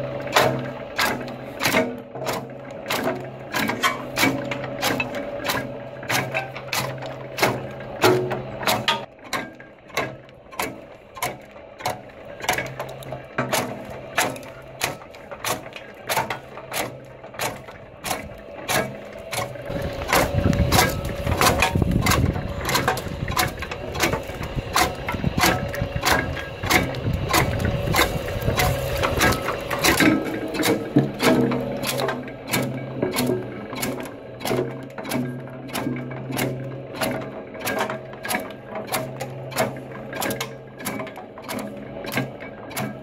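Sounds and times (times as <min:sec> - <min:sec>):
low rumbling noise: 0:00.0 - 0:42.6
wood chopper clicking: 0:00.0 - 0:43.0.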